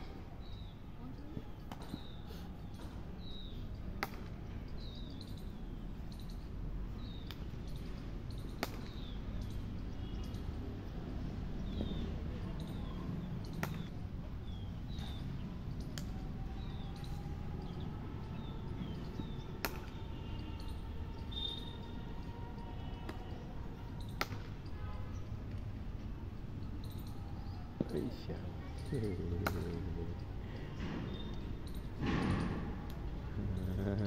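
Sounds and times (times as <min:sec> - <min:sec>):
bird chirping: 0:00.4 - 0:25.4, 0:26.5 - 0:31.9.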